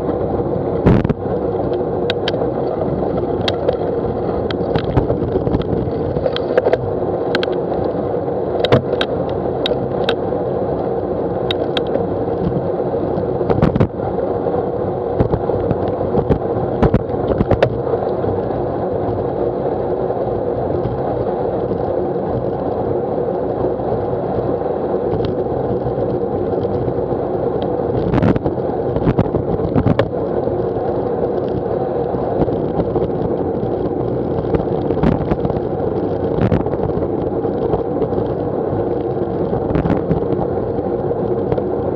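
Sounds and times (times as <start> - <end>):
bicycle road and wind noise: 0.0 - 41.9
steady hum: 0.0 - 41.9.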